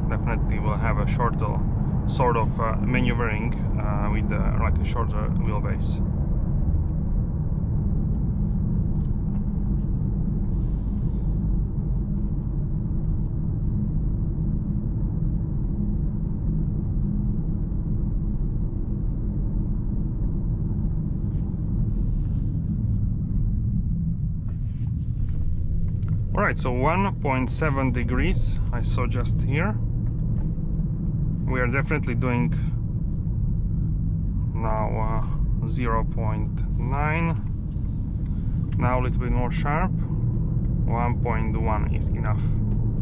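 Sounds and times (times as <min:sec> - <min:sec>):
car cabin road rumble: 0:00.0 - 0:43.0.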